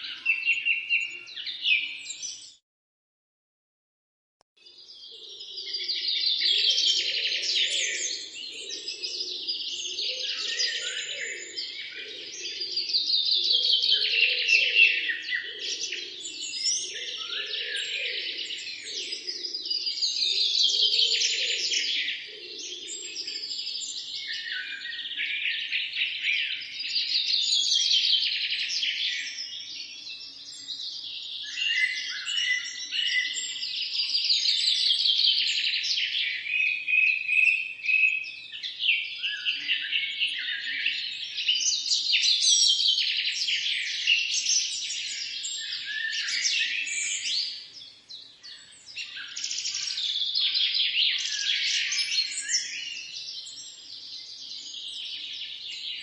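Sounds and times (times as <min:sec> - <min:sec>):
songbirds chirping and trilling: 0:00.0 - 0:02.6, 0:04.6 - 0:56.0.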